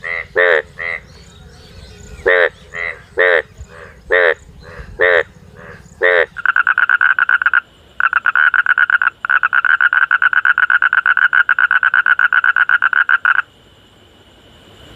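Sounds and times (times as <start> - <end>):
frog croaking in pulse trains: 0.0 - 13.8.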